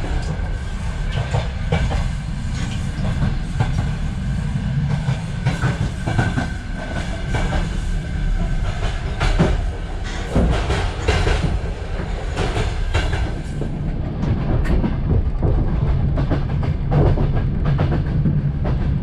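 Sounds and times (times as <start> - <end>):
train carriage rumbling: 0.0 - 19.0.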